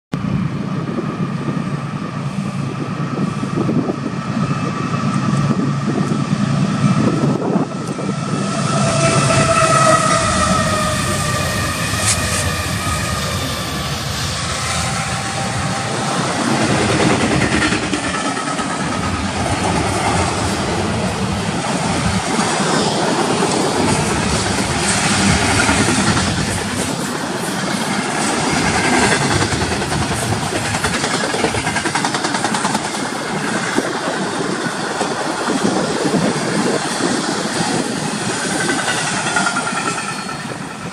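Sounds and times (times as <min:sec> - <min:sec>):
freight train rolling past: 0:00.2 - 0:40.9.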